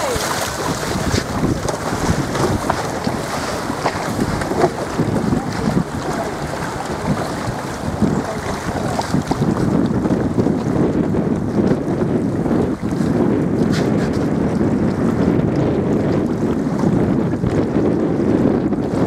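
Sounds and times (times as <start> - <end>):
water splashing against boat hull: 0.0 - 19.0
wind noise on microphone: 0.0 - 19.0.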